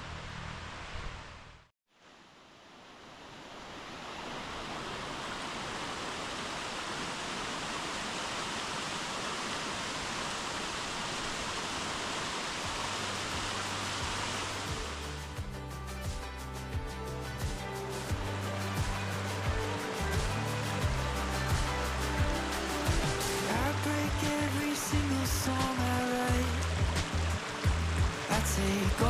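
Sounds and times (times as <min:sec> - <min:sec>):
waterfall rushing: 0:02.9 - 0:15.5, 0:16.6 - 0:29.0.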